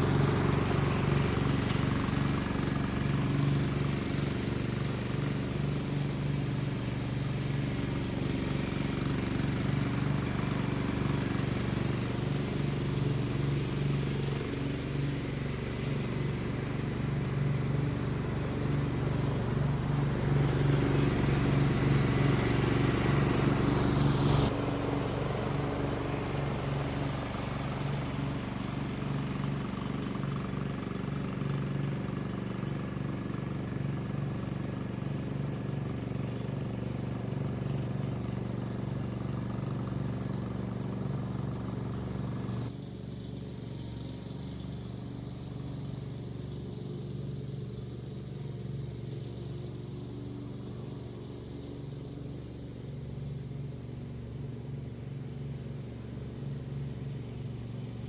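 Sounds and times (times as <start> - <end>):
ride-on mower engine running: 0.0 - 58.0.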